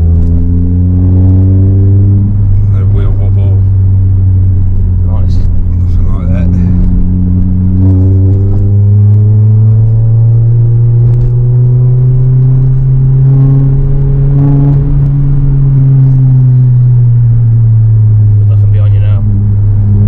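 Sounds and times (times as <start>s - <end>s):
car engine droning in cabin: 0.0s - 20.0s.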